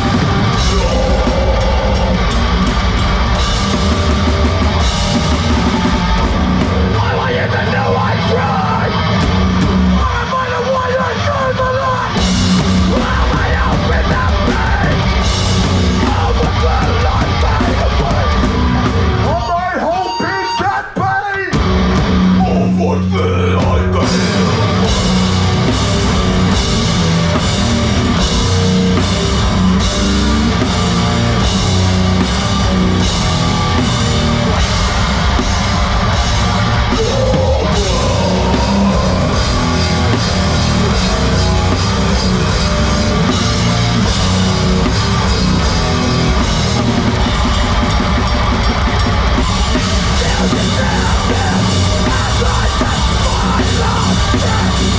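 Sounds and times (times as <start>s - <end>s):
live heavy rock band: 0.0s - 54.9s.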